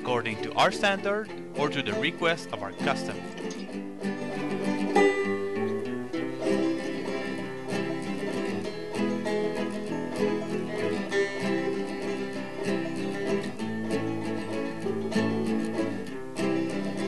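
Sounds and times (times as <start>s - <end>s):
plucked string instrumental music: 0.0s - 17.0s.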